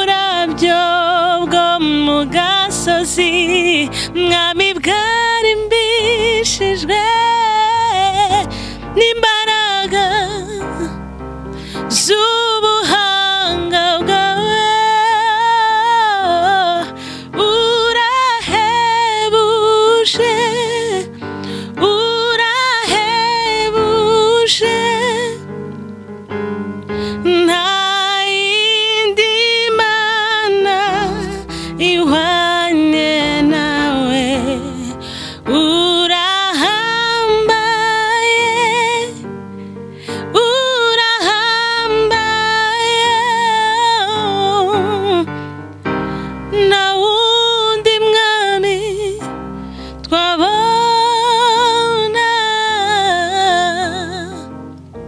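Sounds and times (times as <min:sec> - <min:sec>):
woman singing slow worship song: 0:00.0 - 0:25.8, 0:26.7 - 0:54.7
electronic keyboard: 0:00.0 - 0:55.0.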